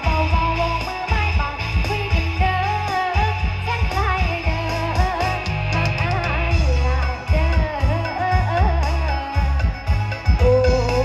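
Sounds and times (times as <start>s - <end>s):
backing track over loudspeakers: 0.0s - 11.0s
heavy deep bass: 0.0s - 11.0s
person singing karaoke: 0.0s - 11.0s.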